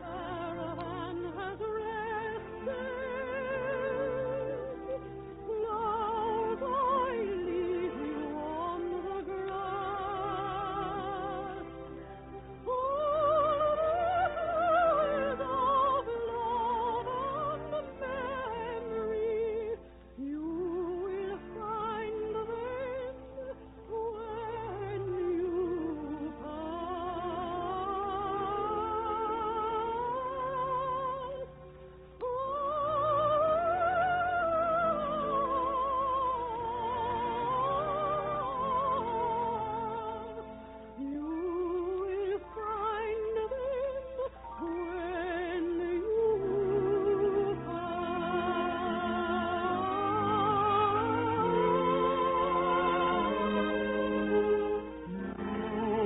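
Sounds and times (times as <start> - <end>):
operatic singing: 0.0 - 31.6, 32.2 - 56.0
orchestral accompaniment: 0.0 - 56.0.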